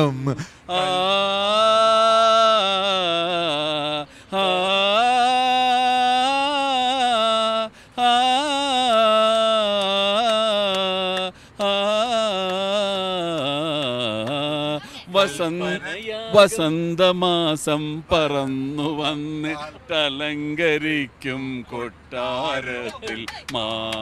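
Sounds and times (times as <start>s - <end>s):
men singing held notes: 0.7s - 24.0s.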